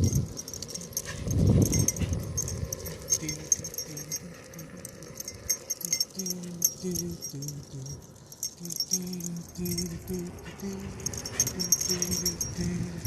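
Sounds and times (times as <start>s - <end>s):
low pulsing hum: 0.0s - 13.0s
metal dog tags jingling: 0.0s - 13.0s.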